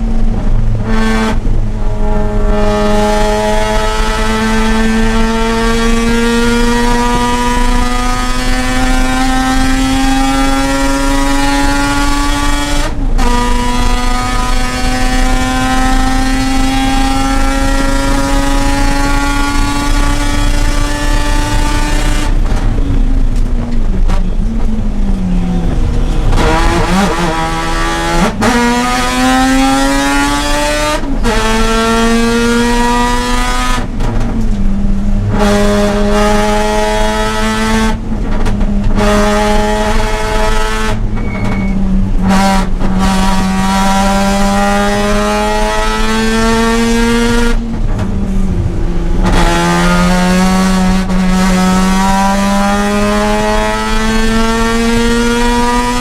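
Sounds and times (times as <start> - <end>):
rotary engine accelerating: 0.0 - 41.1, 42.0 - 56.0.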